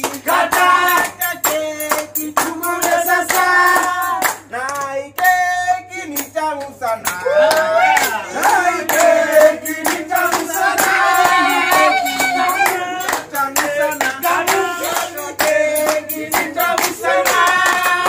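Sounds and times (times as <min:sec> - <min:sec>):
group singing: 0:00.0 - 0:18.0
rhythmic hand clapping: 0:00.0 - 0:18.0.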